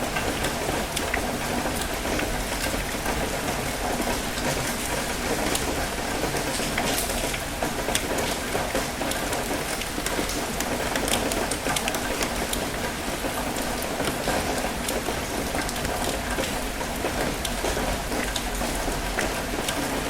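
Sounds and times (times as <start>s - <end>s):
rain drops ticking: 0.0s - 20.0s.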